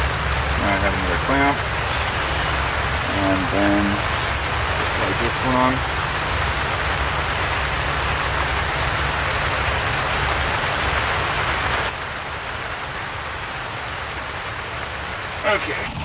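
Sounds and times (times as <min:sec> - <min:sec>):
rain on plastic sheeting: 0:00.0 - 0:16.0.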